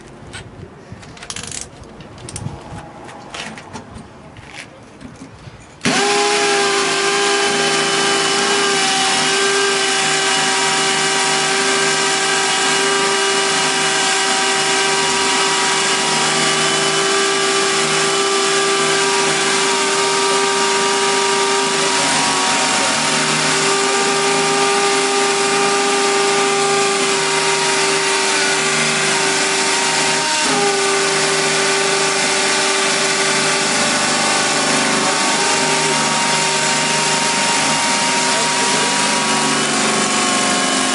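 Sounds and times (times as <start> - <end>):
drill bits cutting concrete: 5.8 - 40.9
drills whining: 5.8 - 40.9.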